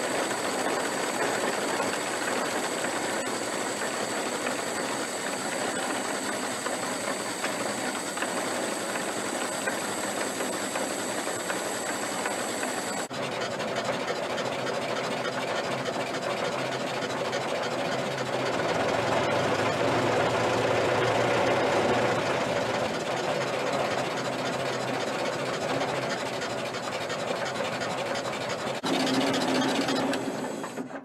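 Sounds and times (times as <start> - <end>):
car engine running at fast idle: 0.0 - 31.0.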